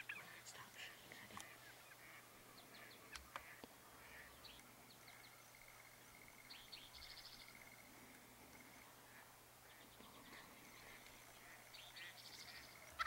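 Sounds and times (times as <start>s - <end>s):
songbird trill: 0.0s - 13.0s.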